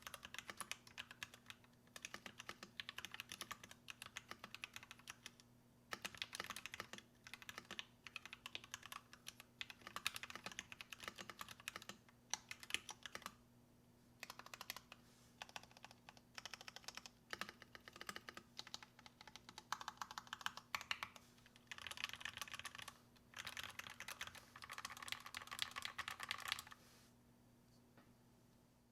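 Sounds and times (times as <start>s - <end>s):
mechanical keyboard typing: 0.0s - 13.4s, 14.2s - 26.8s.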